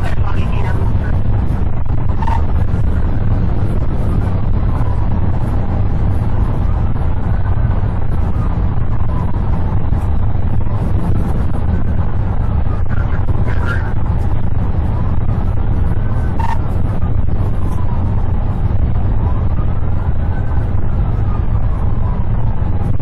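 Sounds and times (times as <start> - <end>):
faint siren wailing: 0.0 - 23.0
road and wind rumble: 0.0 - 23.0.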